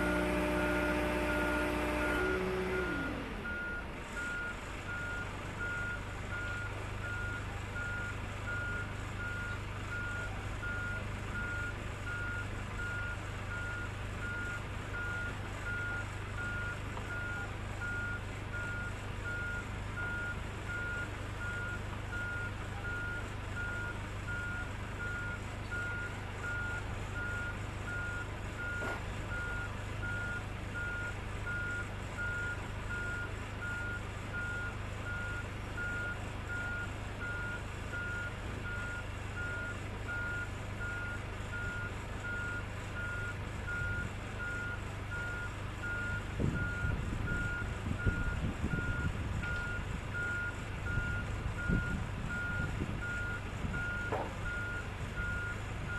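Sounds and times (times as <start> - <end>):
high warning beeps: 2.8 - 55.9.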